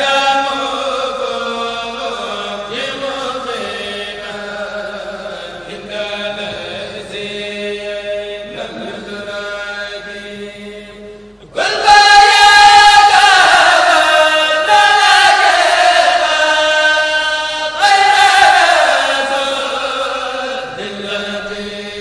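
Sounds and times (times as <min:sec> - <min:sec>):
person chanting devotional poem: 0:00.0 - 0:22.0.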